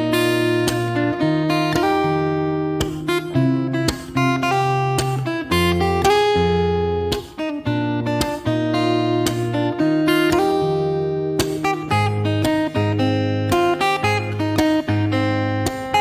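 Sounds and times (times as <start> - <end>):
strummed acoustic guitar chords: 0.0 - 16.0.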